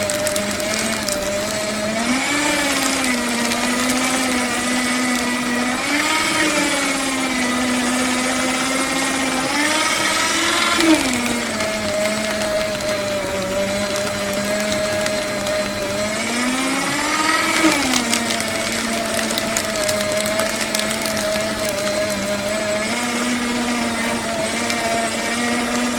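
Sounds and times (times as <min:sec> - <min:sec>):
paper shredder shredding paper: 0:00.0 - 0:25.9.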